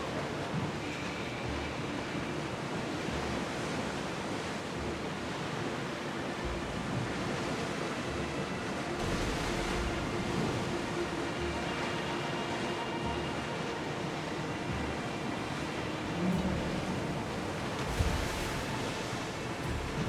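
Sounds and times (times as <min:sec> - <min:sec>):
sea waves rushing: 0:00.0 - 0:20.0.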